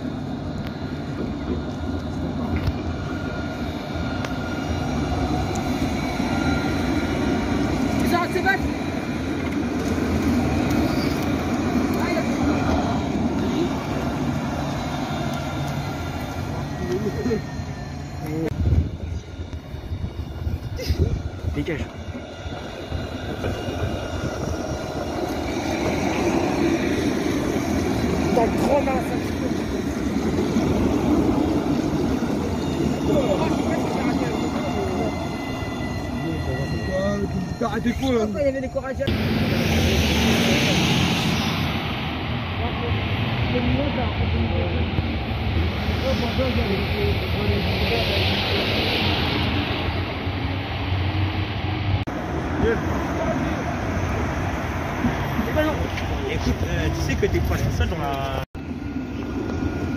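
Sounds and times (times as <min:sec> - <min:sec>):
tram rumbling on rails: 0:00.0 - 0:59.9.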